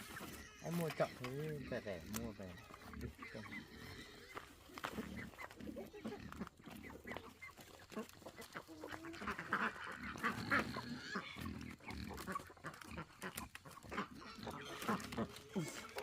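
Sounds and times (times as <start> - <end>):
poultry squawking: 0.0 - 16.0.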